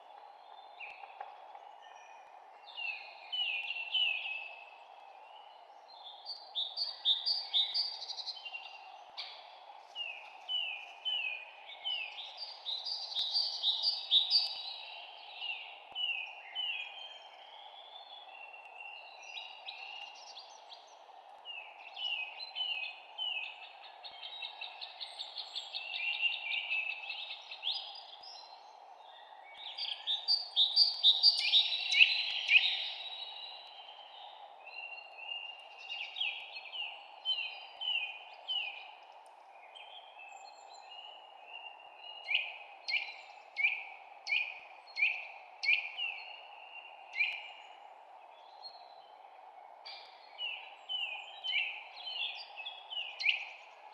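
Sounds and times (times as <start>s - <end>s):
songbirds chirping and singing: 0.1s - 53.9s.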